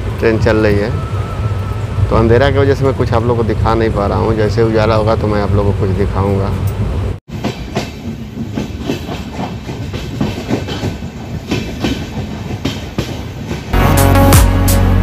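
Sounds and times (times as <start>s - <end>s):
train running gear rumble: 0.0s - 13.8s.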